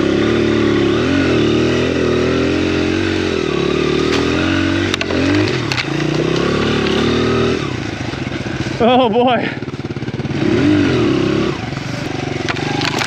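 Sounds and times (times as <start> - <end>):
motorcycle engine running under load: 0.0 - 13.0.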